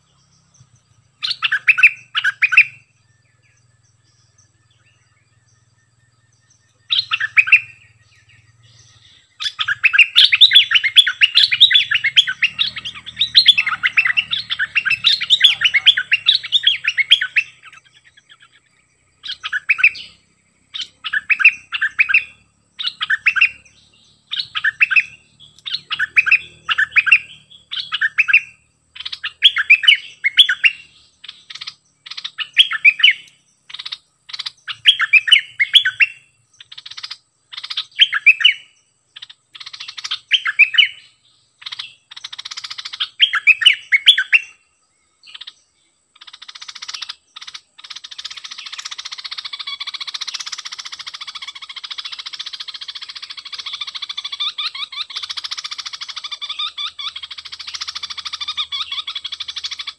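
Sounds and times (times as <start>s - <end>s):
bird singing and chattering: 0.0s - 59.9s.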